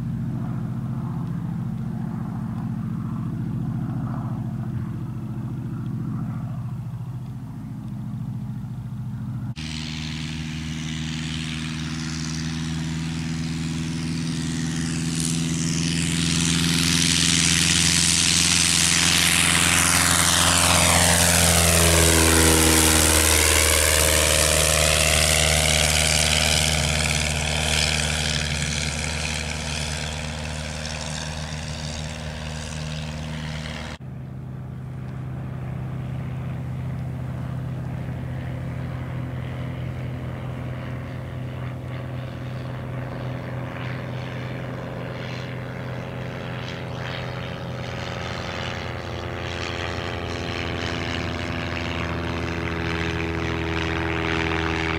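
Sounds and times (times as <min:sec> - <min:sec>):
light aircraft engine: 0:00.0 - 0:54.9.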